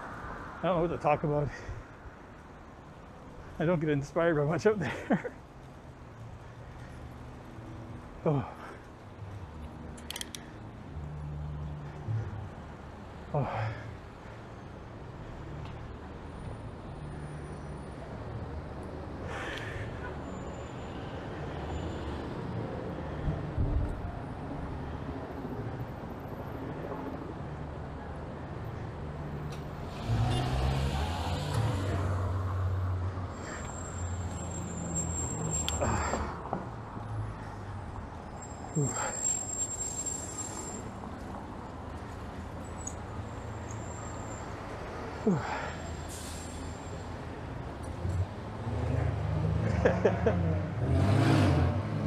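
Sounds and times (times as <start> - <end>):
road traffic rumble: 0.0 - 52.0.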